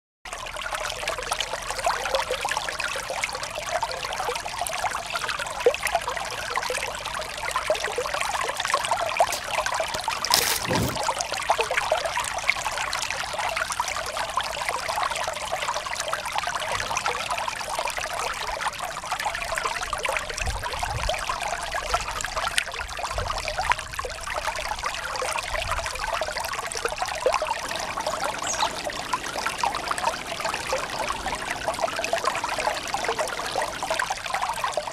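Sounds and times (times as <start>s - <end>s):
stream babbling over rocks: 0.6s - 20.5s, 24.4s - 34.9s.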